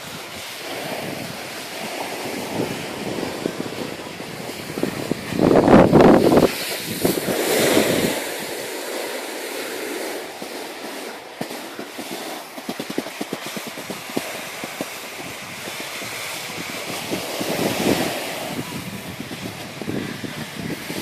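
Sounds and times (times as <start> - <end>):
skis scraping over snow: 0.0 - 21.0.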